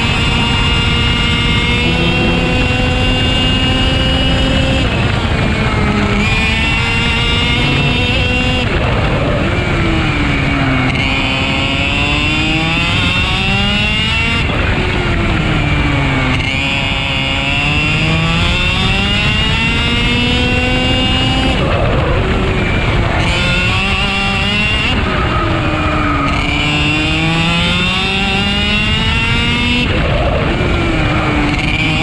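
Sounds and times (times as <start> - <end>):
kart engine at full throttle: 0.0 - 32.0.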